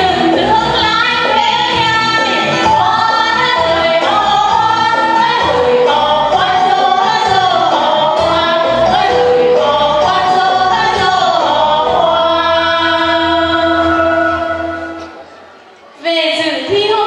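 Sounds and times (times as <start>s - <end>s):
women singing into microphones: 0.0s - 15.2s
music with steady beat: 0.0s - 15.3s.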